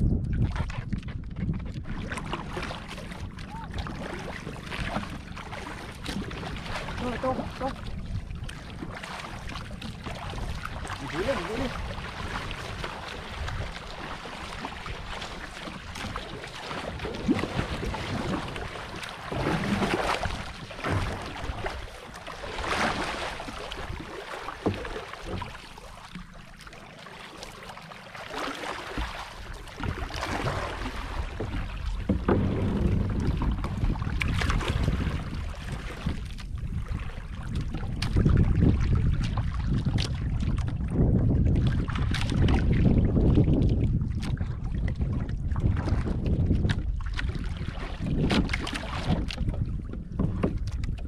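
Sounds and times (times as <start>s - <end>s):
wind rumble on microphone: 0.0s - 26.5s, 28.7s - 51.0s
water splashing against canoe hull: 0.0s - 51.0s.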